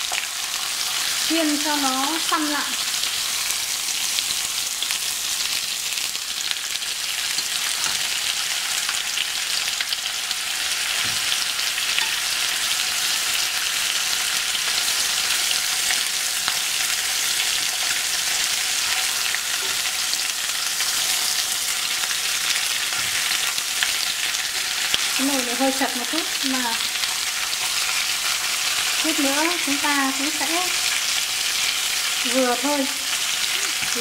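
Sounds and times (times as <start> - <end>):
meat sizzling in hot oil: 0.0 - 34.0.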